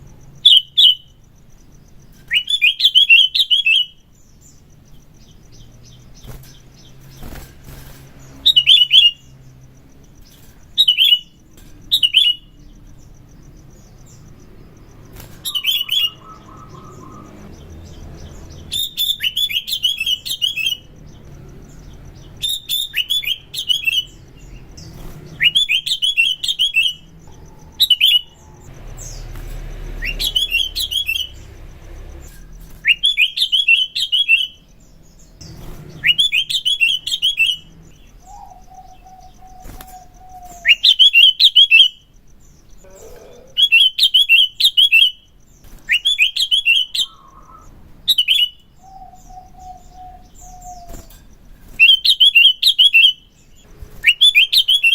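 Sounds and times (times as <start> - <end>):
bird chirping phrases: 0.0 - 54.9.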